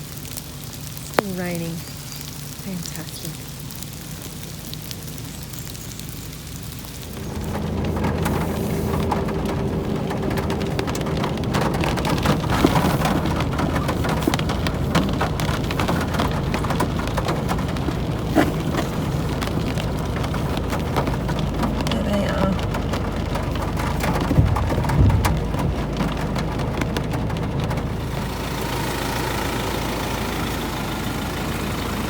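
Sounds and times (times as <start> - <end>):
low steady hum: 0.0 - 32.0
rain drops hitting: 0.0 - 32.0.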